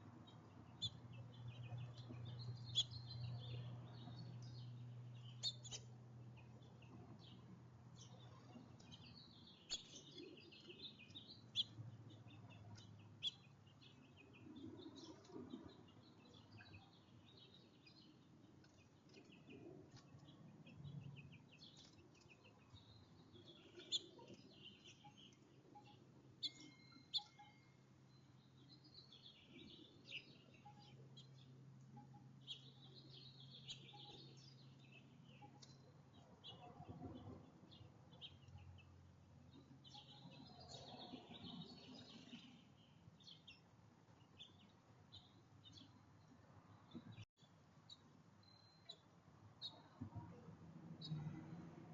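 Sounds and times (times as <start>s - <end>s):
small songbirds chirping: 0.0s - 51.6s.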